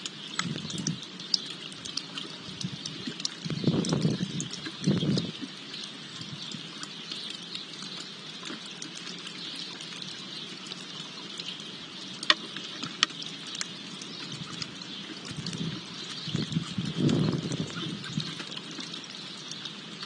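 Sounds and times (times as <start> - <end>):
fountain trickling: 0.0 - 20.0.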